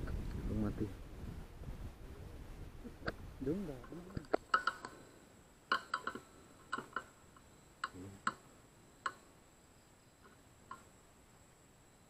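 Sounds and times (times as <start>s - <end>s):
faint high-pitched whine: 0.0s - 12.0s.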